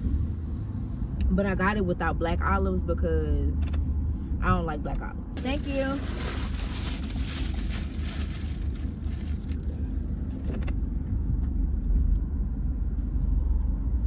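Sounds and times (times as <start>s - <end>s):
car cabin rumble: 1.2s - 13.0s.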